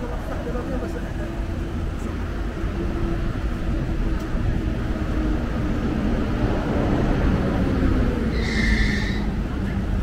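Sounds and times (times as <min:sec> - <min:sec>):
city street traffic rumble: 0:00.0 - 0:10.0.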